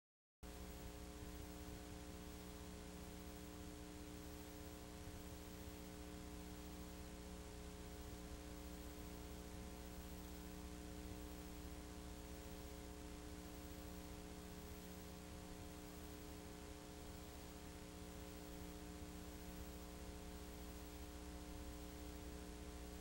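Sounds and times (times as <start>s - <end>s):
electrical hum: 0.5s - 23.0s.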